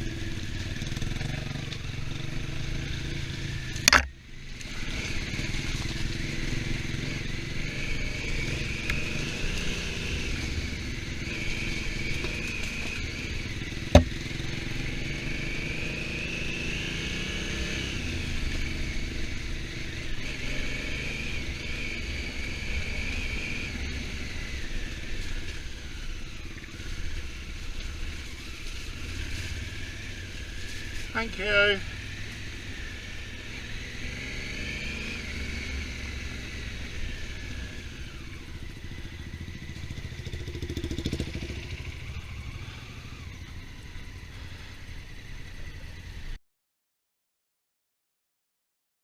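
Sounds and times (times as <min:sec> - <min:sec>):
motorcycle engine running: 0:00.0 - 0:46.4.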